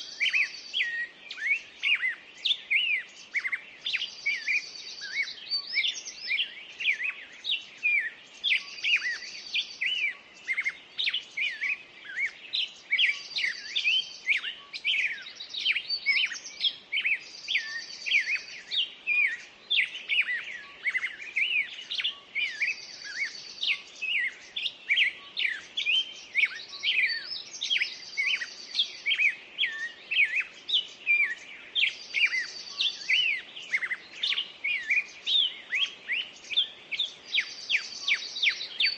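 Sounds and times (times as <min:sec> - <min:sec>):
songbirds singing in chorus: 0:00.0 - 0:38.9.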